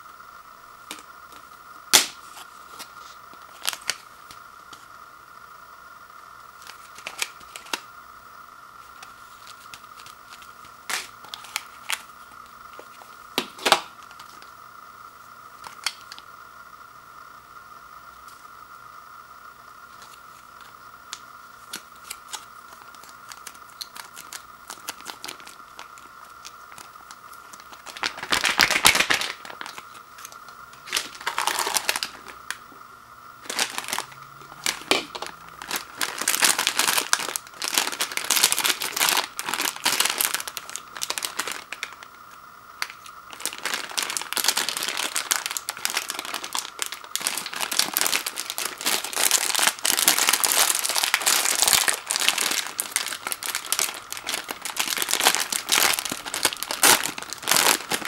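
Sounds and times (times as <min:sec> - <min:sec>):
faint high hum: 0:00.0 - 0:58.0
plastic packaging crinkling: 0:00.9 - 0:04.8, 0:06.6 - 0:07.9, 0:08.8 - 0:14.5, 0:19.9 - 0:32.6, 0:33.4 - 0:58.0.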